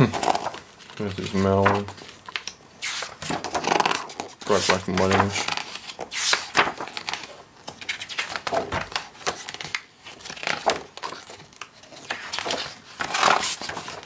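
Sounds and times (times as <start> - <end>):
book pages turning: 0.0 - 14.0.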